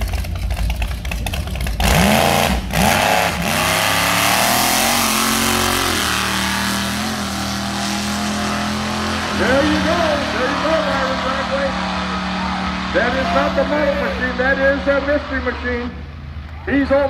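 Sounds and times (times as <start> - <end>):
drag racing van engine revving: 0.0 - 16.5.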